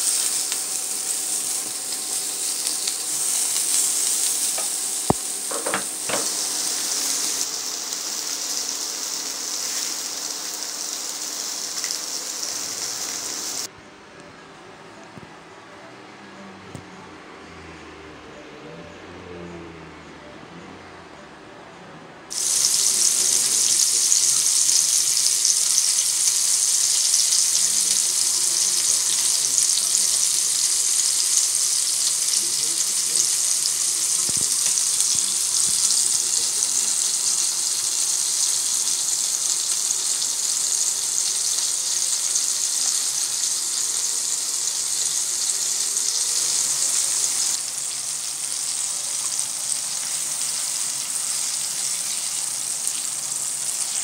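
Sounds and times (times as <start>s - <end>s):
meat sizzling in hot oil: 0.0s - 13.7s, 22.3s - 54.0s.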